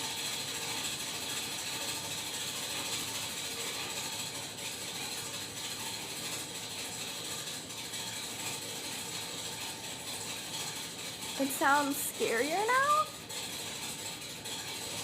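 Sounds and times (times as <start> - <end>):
furnace mechanical clatter: 0.0 - 15.0.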